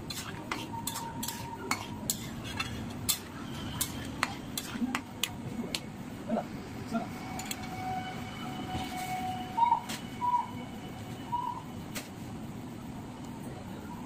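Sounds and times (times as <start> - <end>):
faint steady tone: 0.5 - 14.0.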